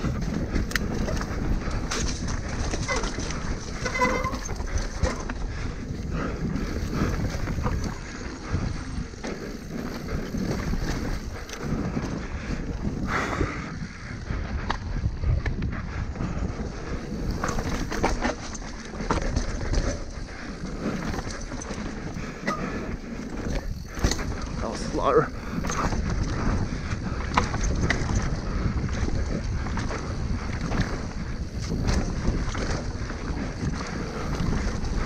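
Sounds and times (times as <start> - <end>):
bike clattering over bumps: 0.0 - 13.6, 14.4 - 35.0
bike tyres rolling on dirt: 0.0 - 35.0
wind buffeting microphone: 0.0 - 35.0.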